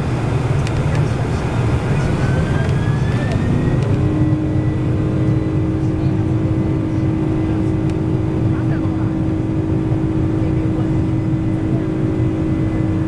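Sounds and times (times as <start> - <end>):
jet engines rumbling: 0.0 - 13.0
rising engine whine: 0.0 - 13.0.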